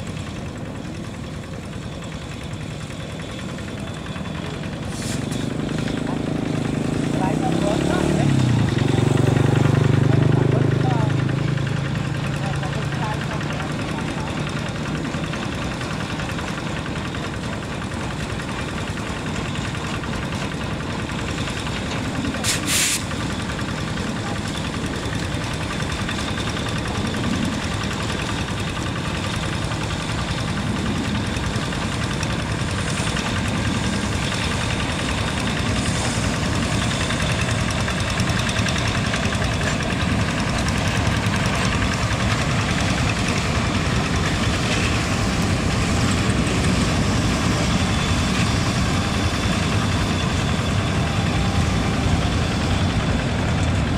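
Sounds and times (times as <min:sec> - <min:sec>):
diesel locomotive engine running: 0:00.0 - 0:53.9.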